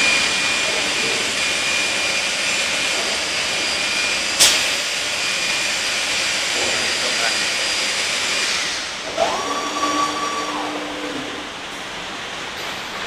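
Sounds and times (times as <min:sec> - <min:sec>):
cnc machine whirring: 0:00.0 - 0:12.6.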